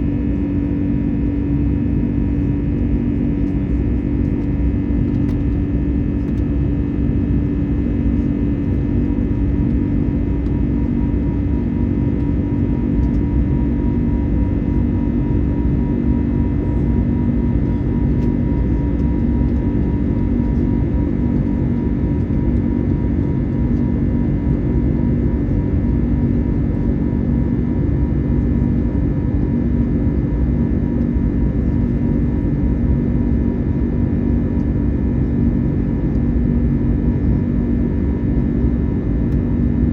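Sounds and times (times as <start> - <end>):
airplane cabin engine rumble: 0.0 - 39.9
constant low hum: 0.0 - 39.9.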